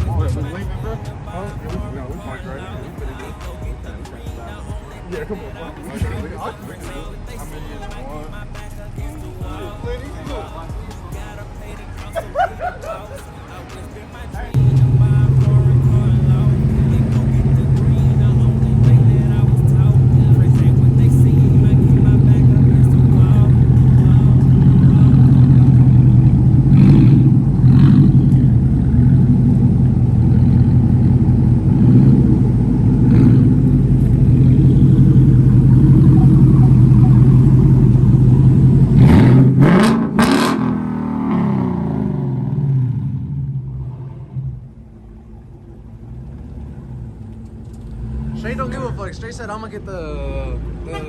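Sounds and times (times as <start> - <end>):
loud car engine running: 0.0 - 13.6, 14.2 - 51.0
sharp exhaust cracks: 0.0 - 50.2.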